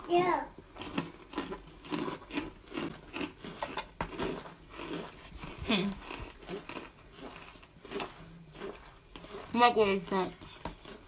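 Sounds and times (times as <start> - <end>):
cornstarch chunks crunching: 0.1 - 11.0.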